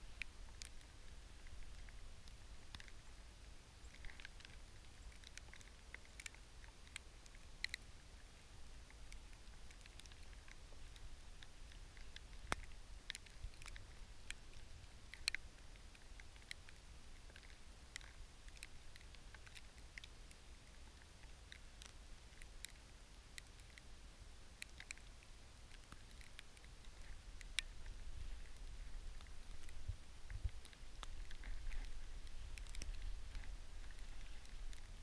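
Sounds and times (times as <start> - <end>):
light ticks and crackles: 0.0 - 35.0
low steady rumble: 0.0 - 35.0.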